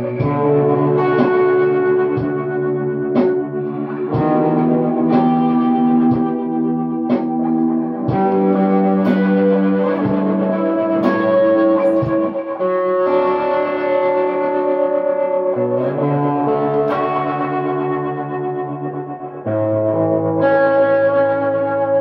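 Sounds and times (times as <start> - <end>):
electric guitar with reverb: 0.0 - 22.0.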